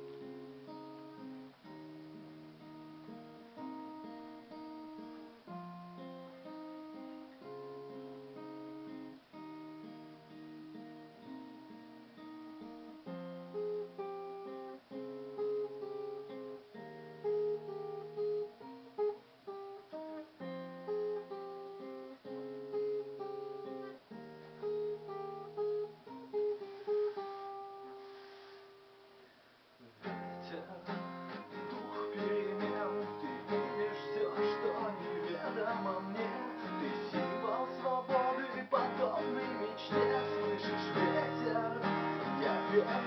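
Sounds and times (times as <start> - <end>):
guitar chords: 0.0 - 29.2, 29.8 - 43.0
strummed guitar: 0.0 - 43.0.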